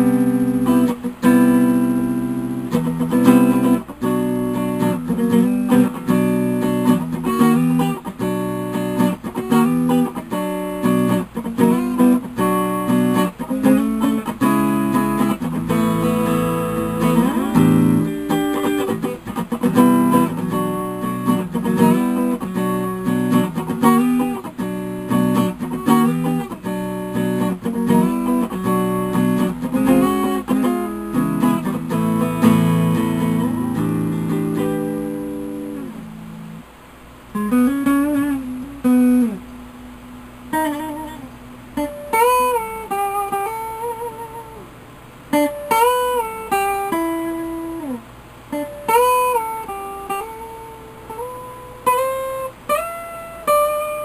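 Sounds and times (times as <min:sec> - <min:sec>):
clean electric guitar playing: 0:00.0 - 0:36.6, 0:37.3 - 0:44.7, 0:45.3 - 0:54.0.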